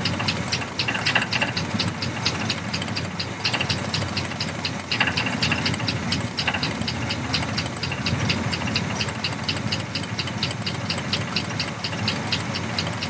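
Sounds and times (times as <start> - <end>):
engine idling rumble: 0.0 - 13.0
engine knocking: 0.0 - 13.0.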